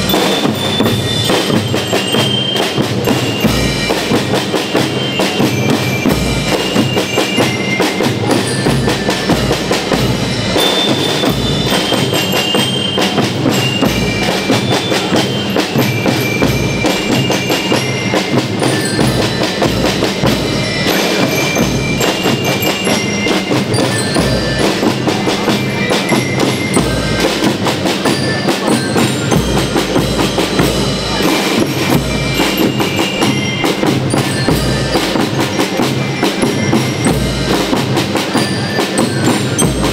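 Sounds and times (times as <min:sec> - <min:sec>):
bell lyre melody: 0:00.0 - 0:39.9
cymbals: 0:00.0 - 0:39.9
snare drums: 0:00.0 - 0:39.9.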